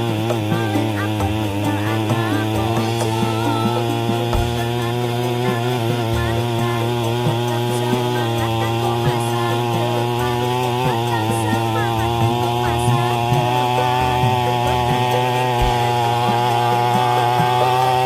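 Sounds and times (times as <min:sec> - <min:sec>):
brush cutter engine running: 0:00.0 - 0:18.0.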